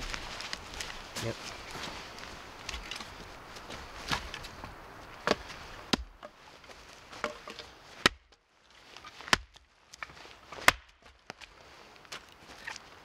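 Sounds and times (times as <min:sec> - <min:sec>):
wood cracking: 0:00.0 - 0:03.2, 0:04.0 - 0:12.9.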